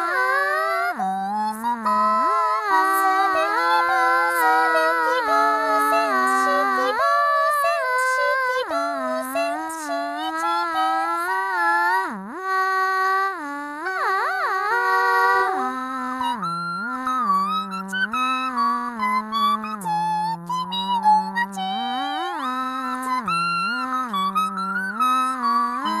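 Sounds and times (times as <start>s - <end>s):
person singing: 0.0s - 26.0s.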